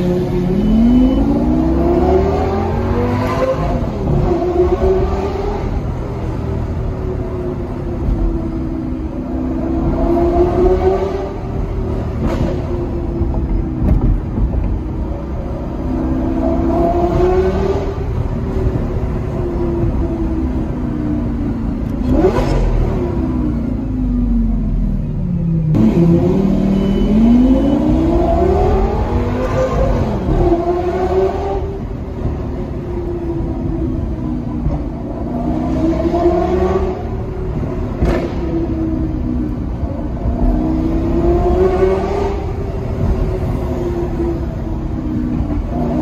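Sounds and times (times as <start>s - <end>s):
car engine revving: 0.0s - 14.6s, 21.8s - 23.7s, 25.4s - 46.0s.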